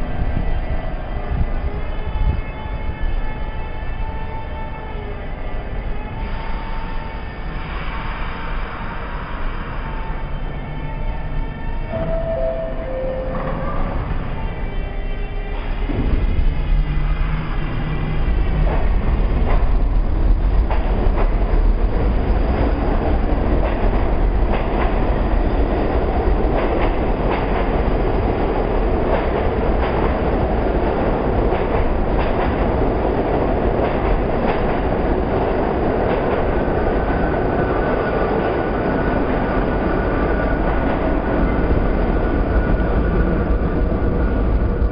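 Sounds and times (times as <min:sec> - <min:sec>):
subway train rumble: 0:00.0 - 0:44.9.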